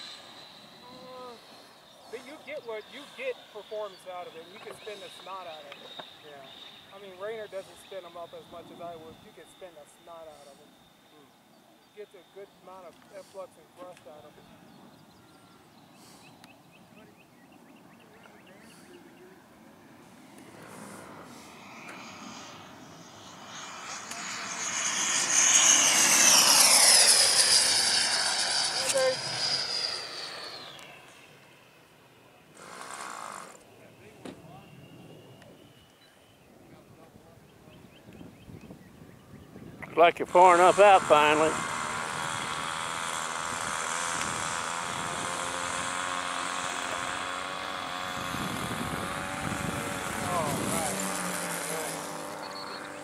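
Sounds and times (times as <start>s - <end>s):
rc jet high-pitched whine: 0.0s - 16.4s, 18.0s - 36.0s, 39.9s - 53.0s.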